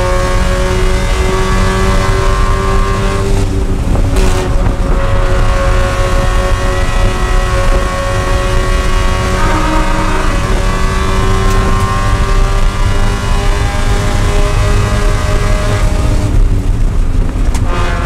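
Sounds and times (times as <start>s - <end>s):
race car engine at high rpm: 0.0s - 18.0s.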